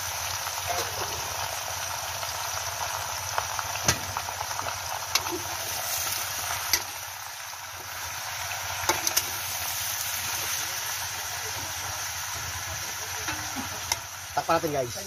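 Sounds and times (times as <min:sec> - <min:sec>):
meat sizzling in a wok: 0:00.0 - 0:15.0.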